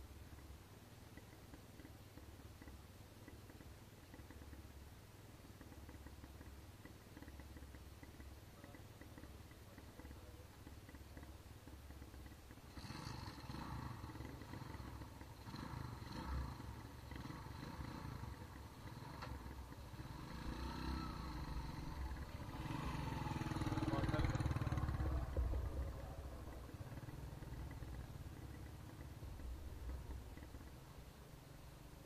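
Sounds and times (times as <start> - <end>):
motorcycle engines on dirt track: 0.0 - 32.0.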